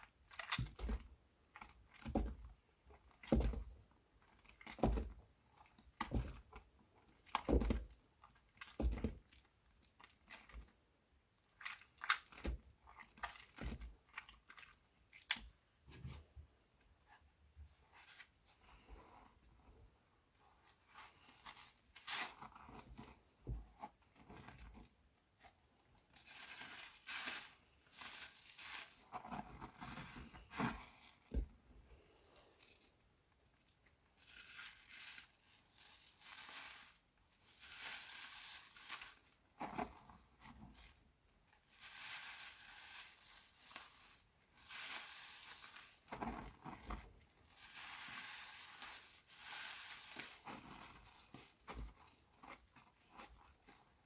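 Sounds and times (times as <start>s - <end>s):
wet soap rubbing and squishing: 0.0s - 54.0s.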